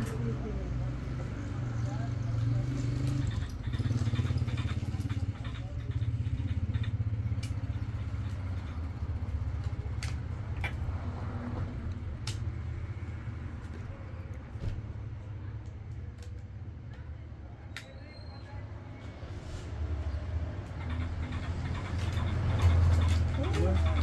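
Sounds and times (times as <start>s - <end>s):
vehicle engine rumbling: 0.0s - 17.0s, 18.0s - 24.0s.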